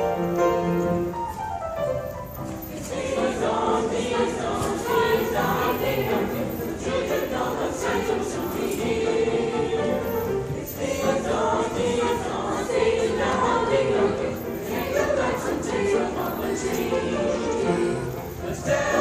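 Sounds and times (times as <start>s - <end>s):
choir singing: 2.7s - 19.0s.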